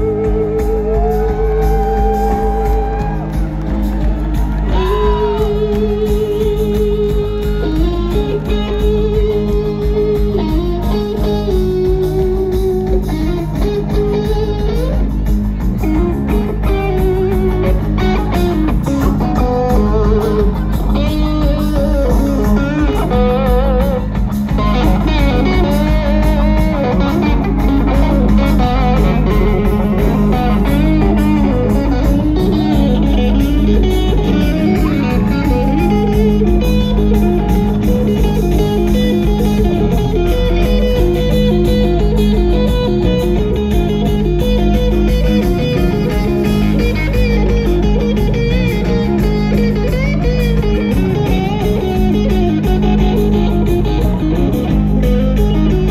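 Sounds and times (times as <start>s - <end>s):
bass line: 0.0s - 55.9s
electric guitar lead with bends: 0.0s - 55.9s.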